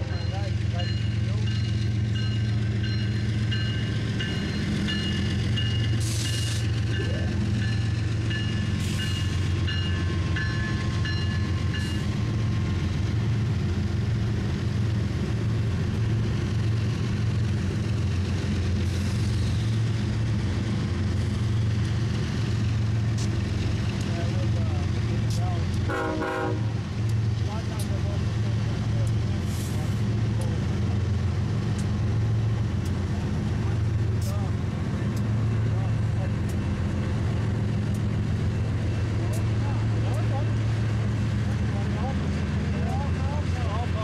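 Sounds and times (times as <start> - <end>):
diesel locomotive engine drone: 0.0 - 44.0.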